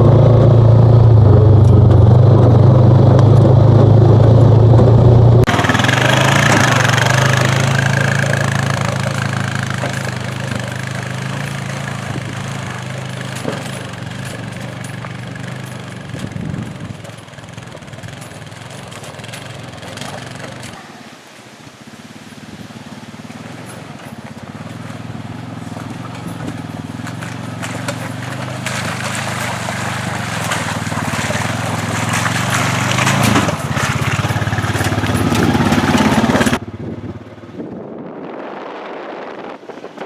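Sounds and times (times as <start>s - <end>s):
engine running loudly: 0.0s - 21.2s, 22.5s - 38.1s.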